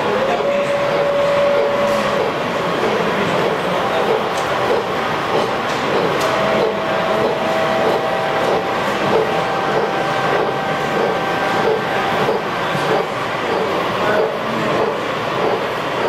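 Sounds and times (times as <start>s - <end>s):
model steam locomotive chuffing: 0.0s - 16.0s
thin steady whine: 0.0s - 16.0s.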